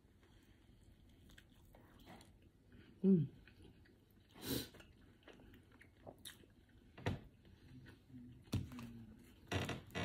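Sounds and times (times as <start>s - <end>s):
close chewing: 0.0s - 9.4s.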